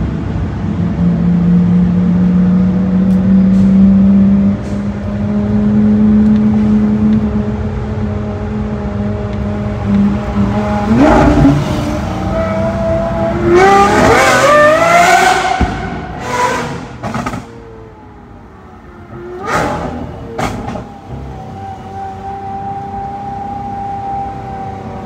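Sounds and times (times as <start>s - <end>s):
sports car engine idling and revving: 0.0s - 25.0s.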